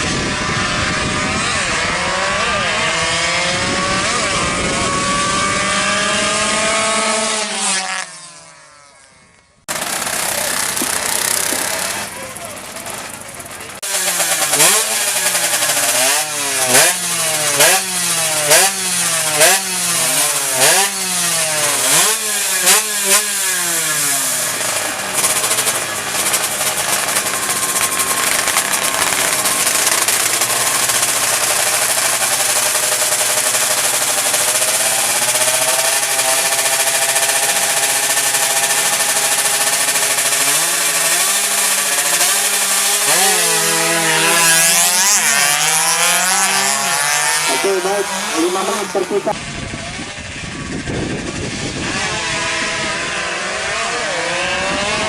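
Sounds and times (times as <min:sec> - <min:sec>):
two-stroke motorbike engine revving: 0:00.0 - 0:09.1, 0:09.7 - 0:55.0.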